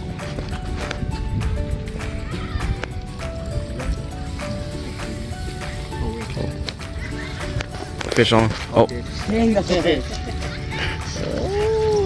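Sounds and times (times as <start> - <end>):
background music with a beat: 0.0 - 12.0.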